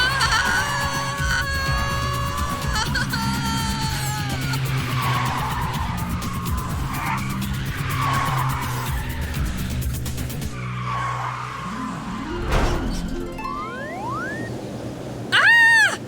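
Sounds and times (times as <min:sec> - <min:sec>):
cartoon tyres squealing: 0:00.0 - 0:13.0
background music: 0:00.0 - 0:14.5.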